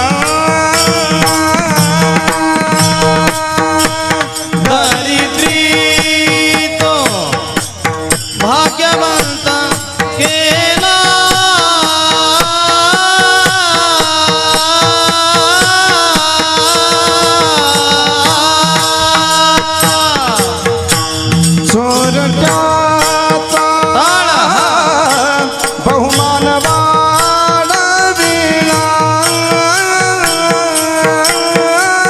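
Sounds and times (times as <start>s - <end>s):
tabla beat: 0.0s - 32.0s.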